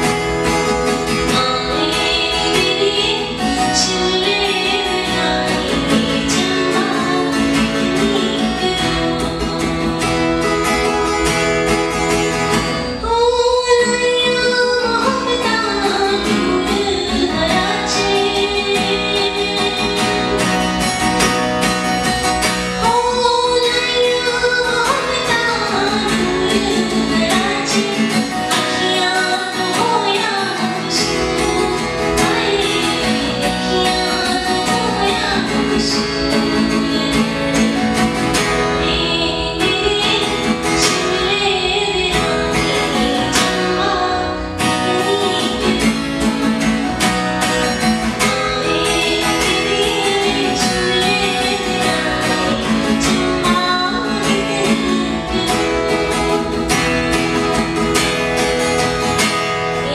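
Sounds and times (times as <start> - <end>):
acoustic guitar strumming: 0.0 - 59.9
woman singing: 0.0 - 59.9.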